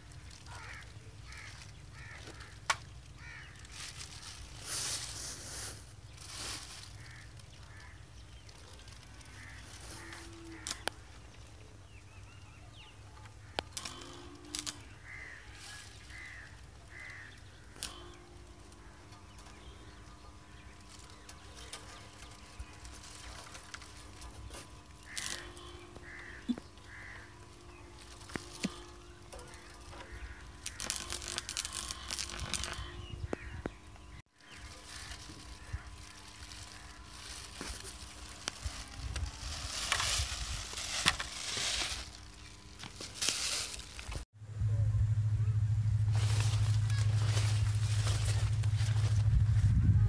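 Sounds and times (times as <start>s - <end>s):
crows cawing: 0.0s - 5.1s, 6.2s - 11.6s, 13.2s - 43.7s, 46.2s - 49.1s.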